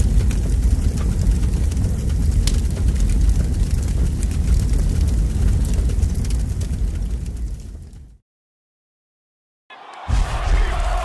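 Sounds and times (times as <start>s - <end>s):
fire burning with crackles: 0.0s - 8.2s, 10.1s - 11.0s.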